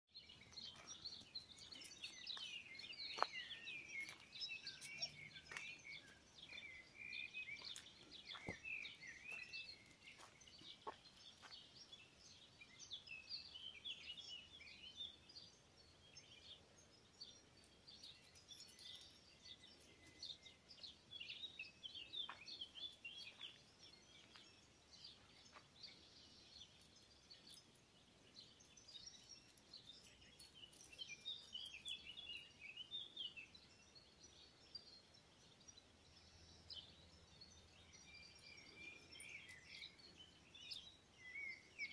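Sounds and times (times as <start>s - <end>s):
small birds chirping: 0.1s - 41.9s.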